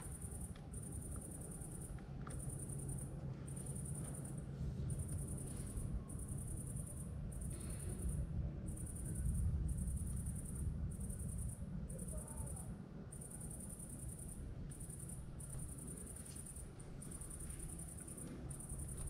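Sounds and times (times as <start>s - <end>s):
insect chirping: 0.0s - 19.0s
steady low rumble: 0.0s - 19.0s.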